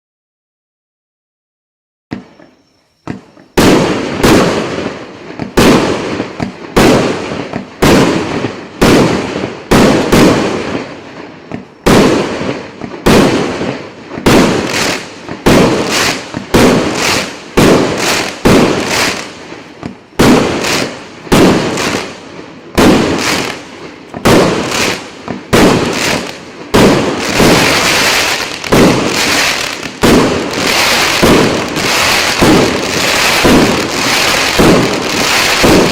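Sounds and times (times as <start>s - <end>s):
firework cake bangs: 2.1s - 10.9s, 11.5s - 23.6s, 24.2s - 35.9s
firework crackling: 2.1s - 35.9s.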